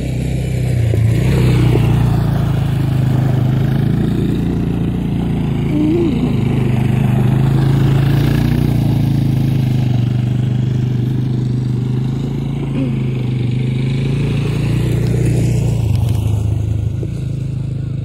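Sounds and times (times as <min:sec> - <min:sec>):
small motorbike engine droning: 0:00.0 - 0:18.0.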